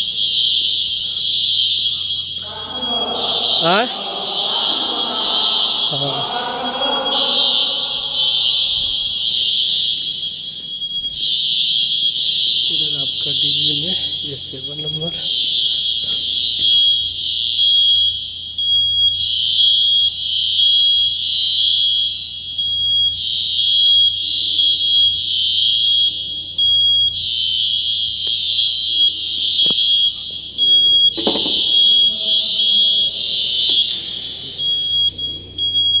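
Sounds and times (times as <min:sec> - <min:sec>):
fire alarm sounder pulsing tone: 0:00.0 - 0:36.0.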